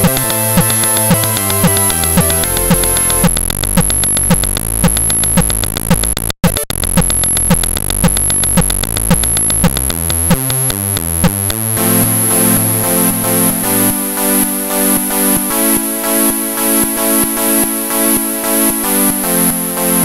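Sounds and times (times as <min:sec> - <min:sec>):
chiptune music: 0:00.0 - 0:20.0.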